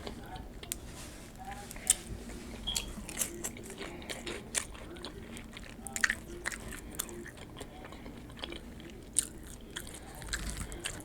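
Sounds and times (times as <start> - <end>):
chewing crunchy chips: 1.5 - 11.0.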